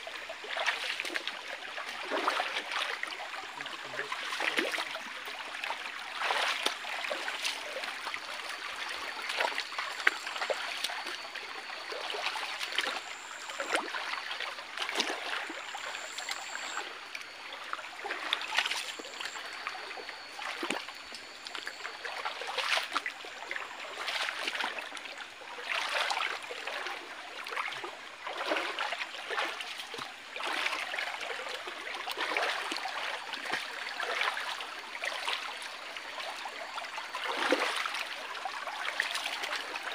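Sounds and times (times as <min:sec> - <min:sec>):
feet wading through water: 0:00.0 - 0:39.9
rocky stream running: 0:00.0 - 0:39.9.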